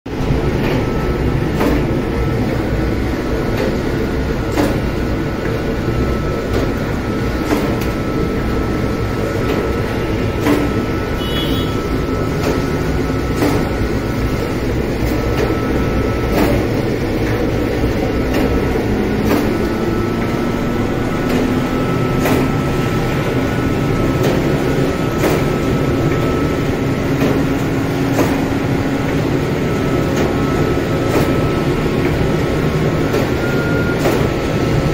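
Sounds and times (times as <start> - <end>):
dough machines rumbling: 0.1 - 34.9
faint machine whine: 0.1 - 34.9.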